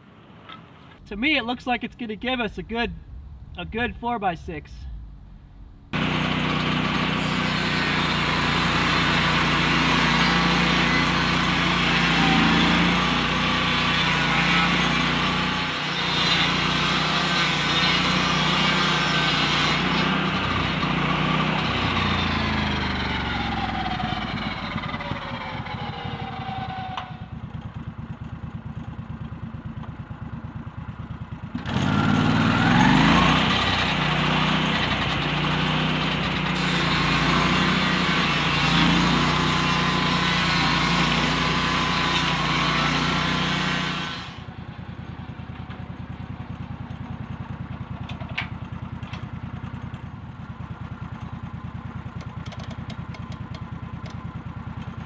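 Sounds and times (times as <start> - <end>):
sawmill engine and circular blade: 5.9 - 55.0.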